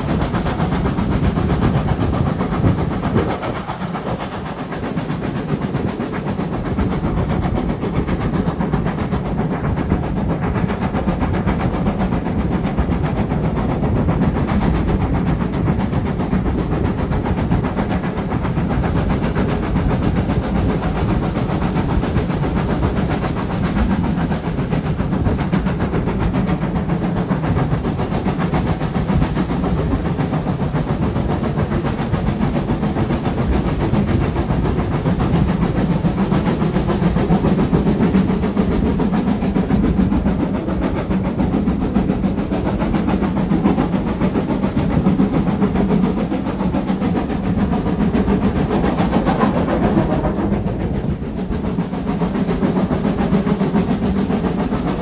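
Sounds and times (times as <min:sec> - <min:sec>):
air rushing at open window: 0:00.0 - 0:55.0
train wheels rumbling on rail: 0:00.0 - 0:55.0.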